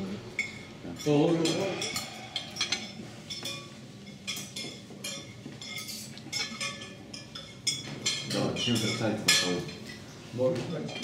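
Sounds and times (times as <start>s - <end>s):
cutlery clinking on ceramic plate: 0.4s - 10.0s.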